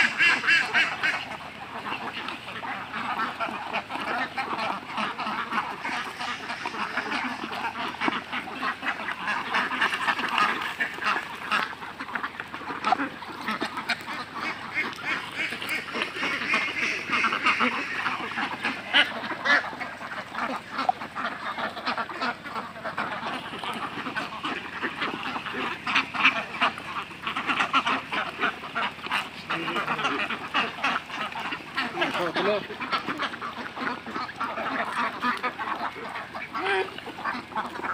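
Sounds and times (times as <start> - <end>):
ducks quacking: 0.0 - 37.9.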